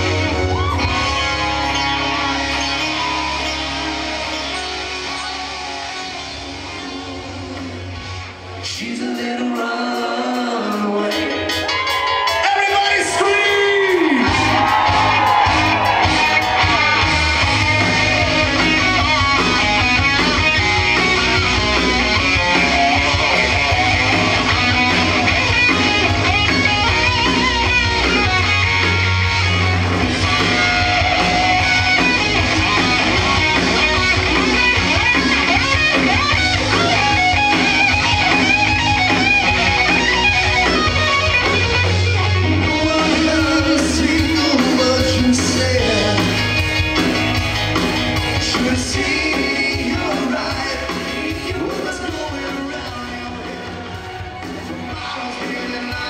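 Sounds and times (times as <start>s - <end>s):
electric guitar: 0.0s - 12.5s, 13.5s - 56.0s
live rock band playing: 0.0s - 56.0s.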